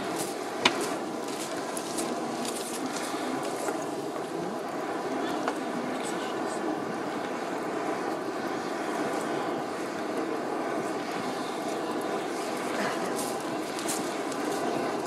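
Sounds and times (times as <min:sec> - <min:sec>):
steady rushing roar: 0:00.0 - 0:15.0.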